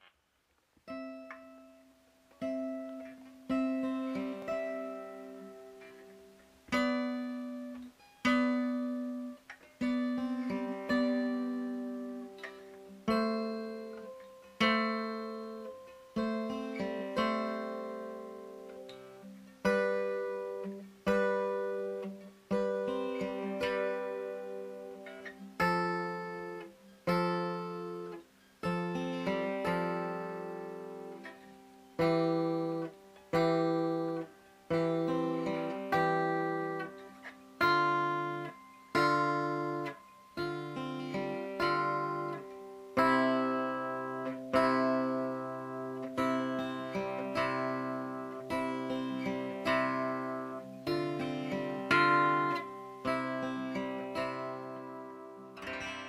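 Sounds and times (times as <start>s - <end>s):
acoustic guitar slow chords: 0.8s - 56.0s.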